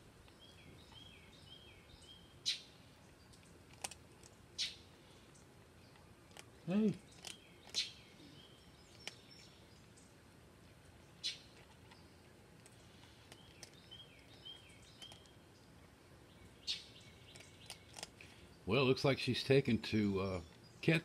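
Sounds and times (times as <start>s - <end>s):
songbird chips: 0.2s - 10.1s, 11.0s - 15.8s, 16.4s - 21.0s.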